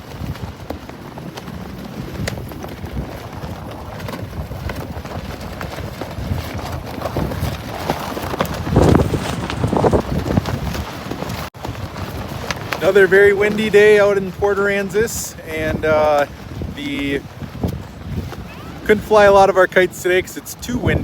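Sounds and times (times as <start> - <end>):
sharp flapping clicks: 0.0 - 19.0
wind buffeting microphone: 0.0 - 21.0.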